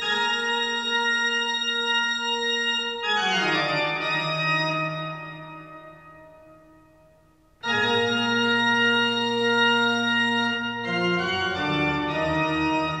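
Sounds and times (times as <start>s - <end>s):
organ chords: 0.0s - 13.0s.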